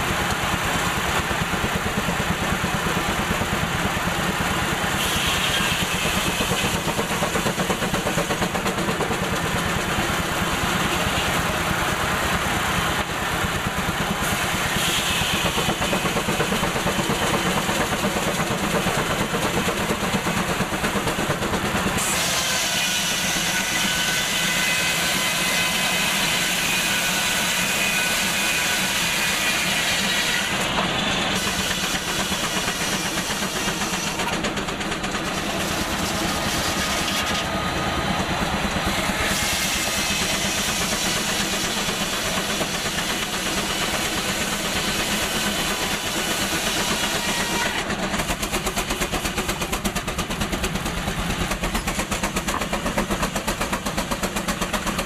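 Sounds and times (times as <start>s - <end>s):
hissing machinery noise: 0.0s - 55.0s
saw blade cutting log: 1.6s - 9.9s, 10.8s - 11.6s, 13.0s - 55.0s.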